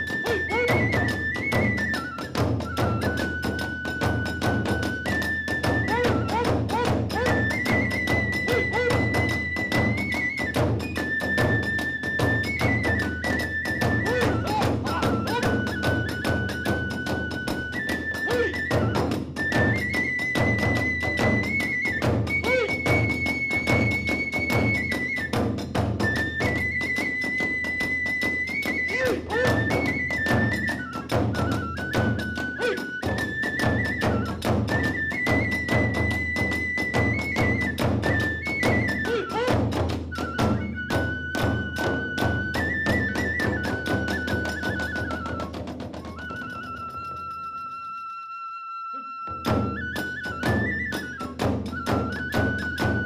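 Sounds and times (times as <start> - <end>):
fast drumming: 0.0 - 47.4, 49.5 - 53.0
high bamboo flute: 0.0 - 53.0.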